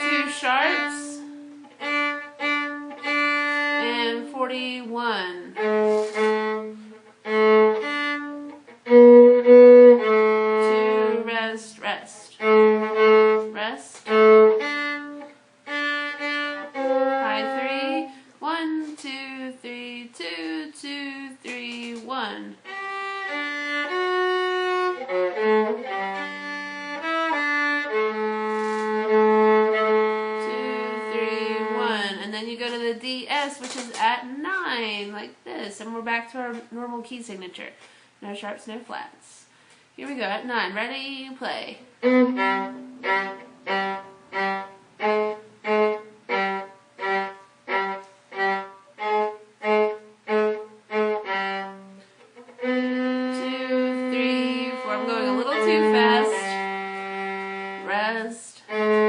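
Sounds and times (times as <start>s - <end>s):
viola melody: 0.0s - 32.8s, 40.9s - 59.0s.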